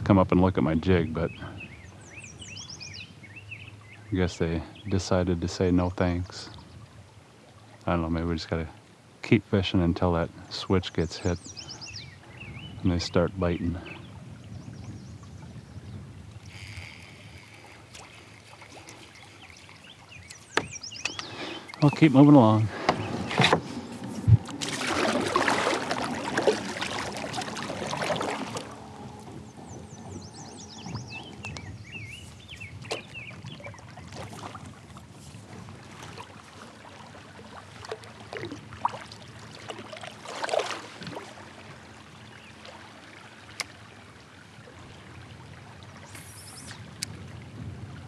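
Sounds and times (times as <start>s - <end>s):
water splashing around a kayak: 0.0s - 48.0s.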